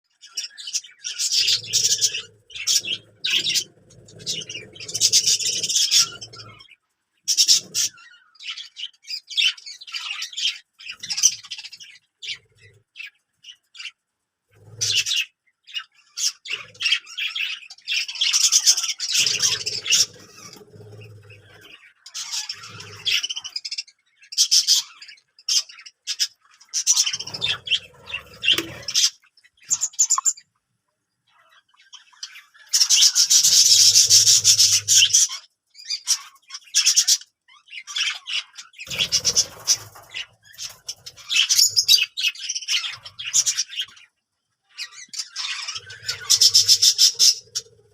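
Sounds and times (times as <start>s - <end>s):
budgerigars chirping and squawking: 0.1s - 30.6s, 31.2s - 47.9s.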